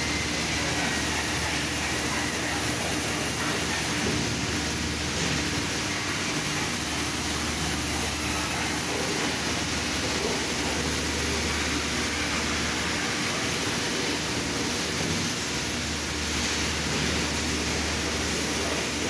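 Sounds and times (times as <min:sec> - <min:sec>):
factory machinery hum: 0:00.0 - 0:19.0
machinery hiss: 0:00.0 - 0:19.0.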